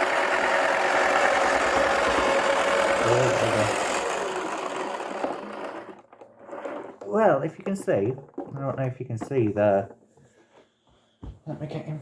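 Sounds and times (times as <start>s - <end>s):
toy washing machine motor whirring: 0.0s - 10.0s.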